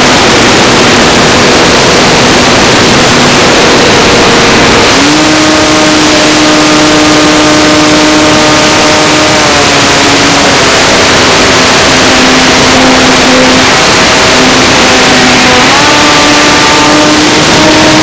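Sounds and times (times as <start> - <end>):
electric motor propeller whining: 0.0 - 18.0
wind rush on microphone: 0.0 - 18.0.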